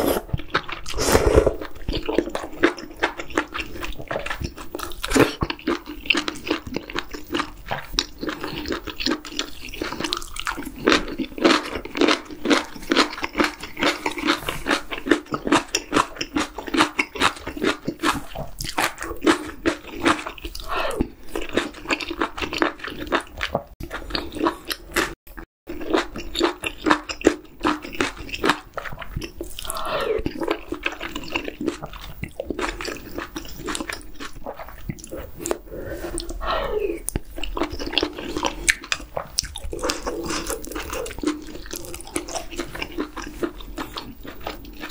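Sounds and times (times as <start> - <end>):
chewing with wet mouth clicks: 0.3 - 1.0, 1.6 - 44.9.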